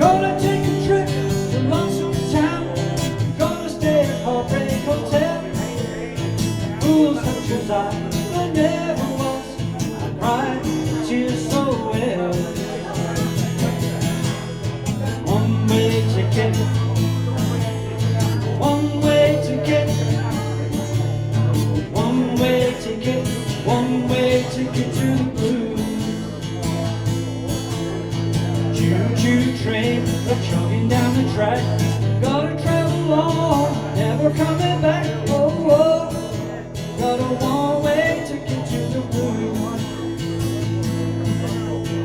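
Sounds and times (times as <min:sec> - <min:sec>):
acoustic guitar melody: 0:00.0 - 0:42.0.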